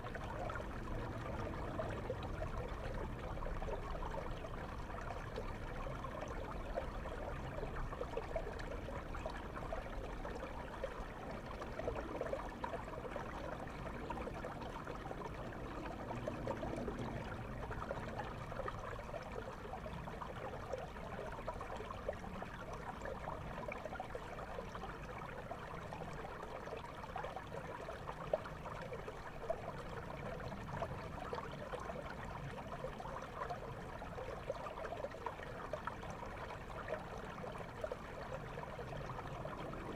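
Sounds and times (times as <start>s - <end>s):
muffled underwater river rush: 0.0s - 39.9s
small bubbling ticks: 0.0s - 39.9s.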